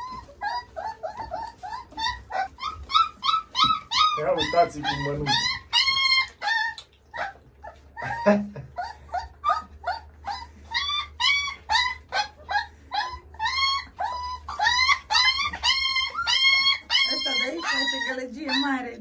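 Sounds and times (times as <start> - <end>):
puppies whining: 0.0 - 19.0.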